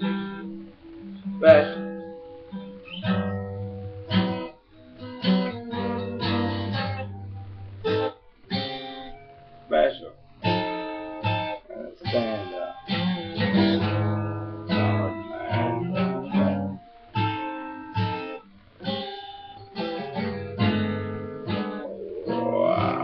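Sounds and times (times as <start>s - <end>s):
acoustic guitar strummed chords: 0.0s - 23.0s.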